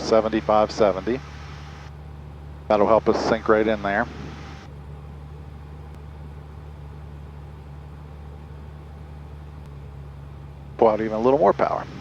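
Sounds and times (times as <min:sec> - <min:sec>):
aircraft engine cabin drone: 0:00.0 - 0:12.0.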